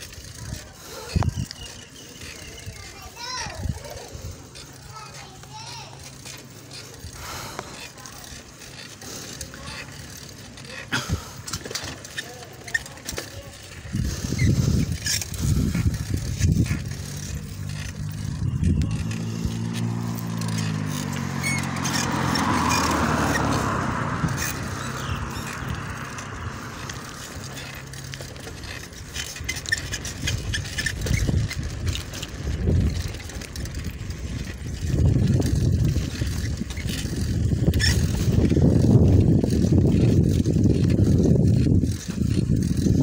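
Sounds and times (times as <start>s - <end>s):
wind buffeting microphone: 0.0s - 5.0s, 13.5s - 43.0s
road noise: 0.0s - 43.0s
vehicle engine hum: 0.0s - 43.0s.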